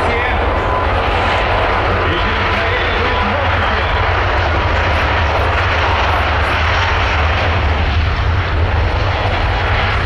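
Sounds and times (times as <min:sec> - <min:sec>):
jet engines at takeoff thrust: 0:00.0 - 0:10.0.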